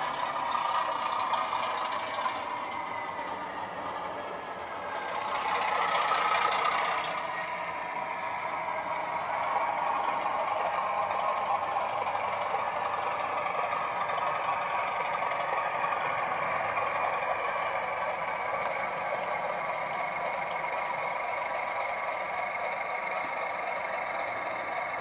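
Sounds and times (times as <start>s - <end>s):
diesel engine sound through small speaker: 0.0s - 25.0s.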